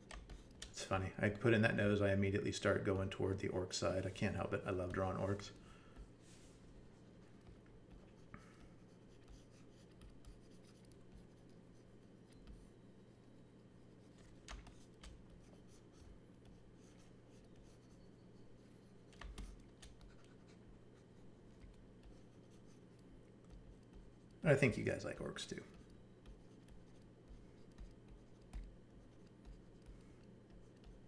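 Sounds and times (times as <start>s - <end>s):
steady low hum: 0.0s - 31.0s
stylus scratching on tablet: 1.4s - 31.0s.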